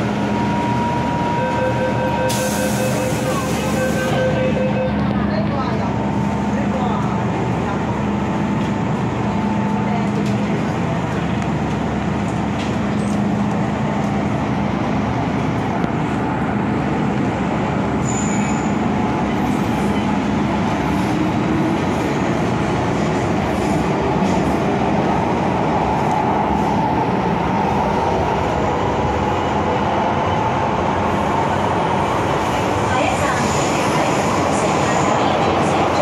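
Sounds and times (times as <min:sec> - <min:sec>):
train humming tone: 0:00.0 - 0:36.0
wheels rumbling on rail: 0:00.0 - 0:36.0.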